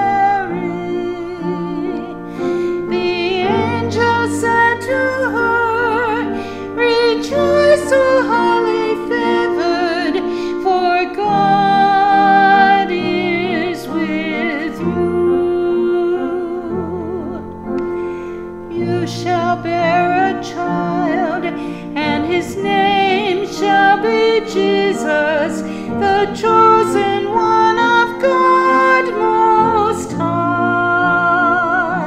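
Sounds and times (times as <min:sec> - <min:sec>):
instrumental accompaniment: 0:00.0 - 0:32.0
person singing with vibrato: 0:00.0 - 0:32.0.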